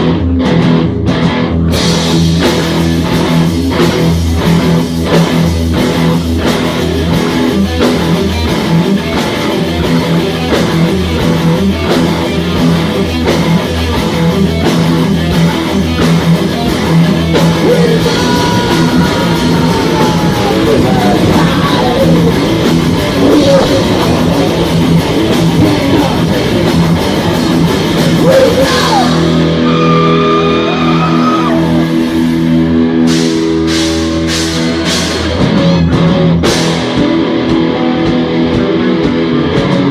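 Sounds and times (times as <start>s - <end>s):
bass guitar: 0.0s - 39.9s
electric guitars: 0.0s - 39.9s
fast drum kit: 0.0s - 39.9s.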